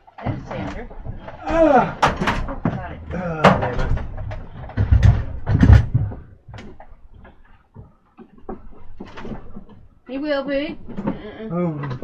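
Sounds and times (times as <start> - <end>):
heavy clunks and knocks: 0.1 - 9.9.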